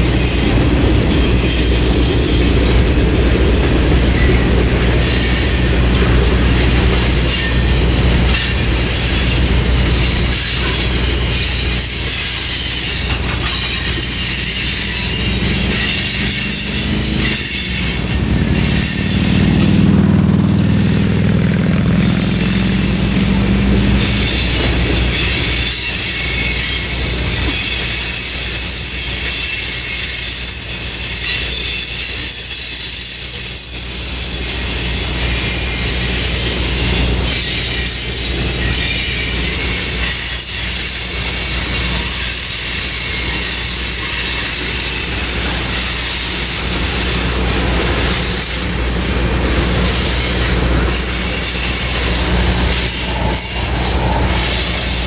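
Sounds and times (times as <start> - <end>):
train wheel squeals: 0.0 - 21.2, 21.8 - 55.0
clickety-clack over rail joints: 0.0 - 55.0
freight train rumbling past: 0.0 - 55.0.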